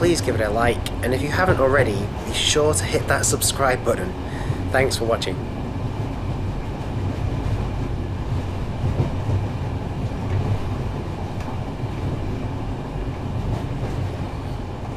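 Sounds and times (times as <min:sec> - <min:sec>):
train rumbling on rails: 0:00.0 - 0:14.9.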